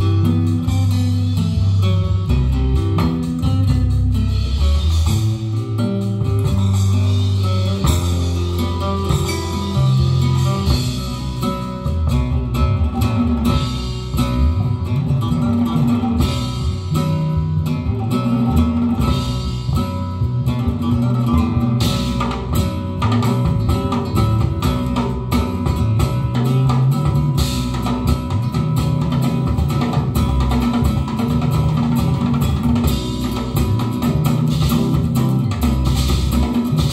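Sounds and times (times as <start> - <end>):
guitar and bass music: 0.0 - 36.9.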